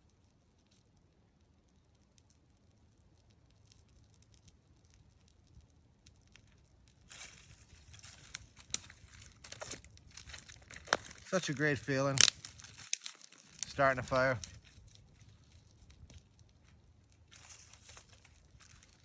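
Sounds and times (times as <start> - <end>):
campfire crackling and hissing: 0.0 - 19.0.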